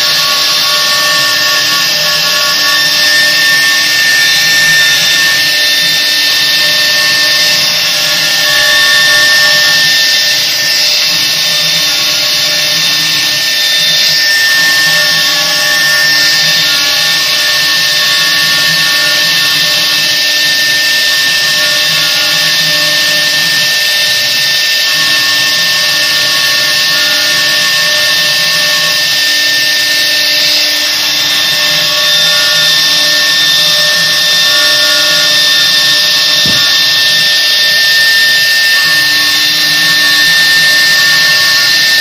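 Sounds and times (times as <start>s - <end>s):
router spindle high whine: 0.0s - 42.0s.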